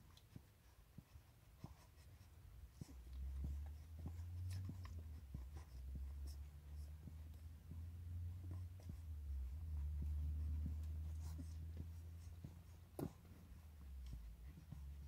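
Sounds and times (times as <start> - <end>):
puppies suckling wet smacks: 0.0 - 15.0.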